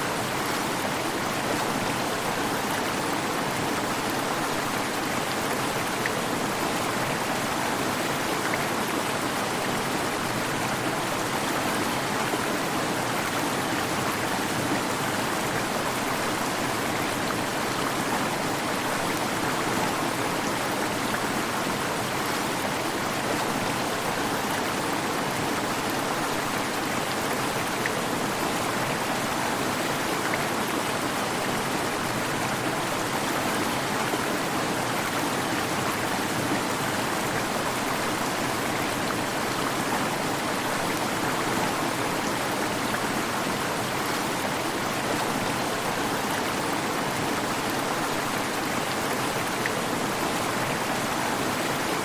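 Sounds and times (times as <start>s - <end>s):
waterfall rushing and splashing: 0.0s - 52.0s.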